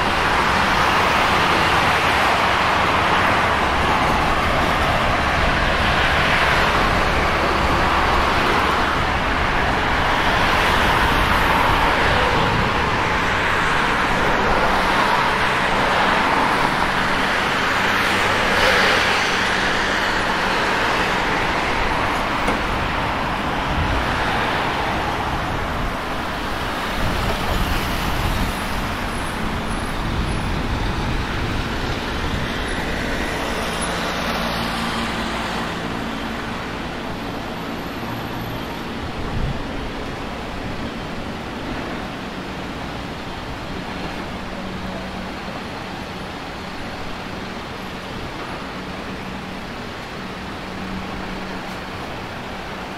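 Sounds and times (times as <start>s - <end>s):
cars passing on busy street: 0.0s - 52.9s.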